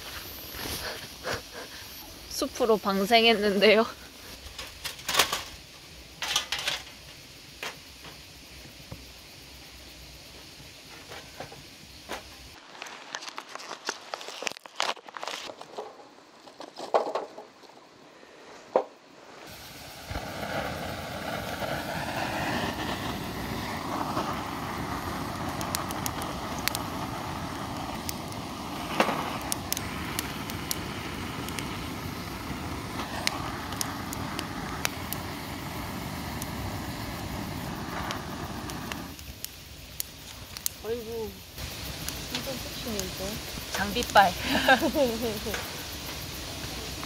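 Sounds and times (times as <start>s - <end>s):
wood fire crackling and roaring: 0.0s - 47.0s.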